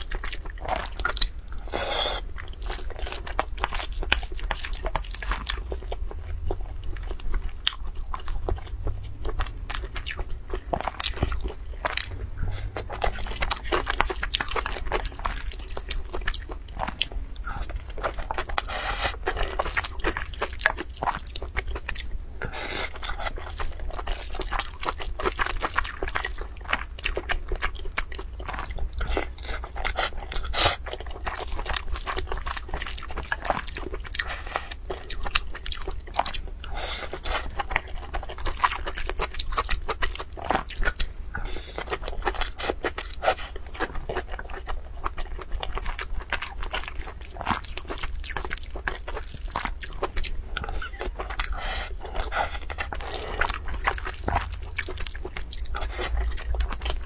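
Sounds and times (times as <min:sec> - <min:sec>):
person chewing: 0:00.0 - 0:57.0
steady low hum: 0:00.0 - 0:57.0.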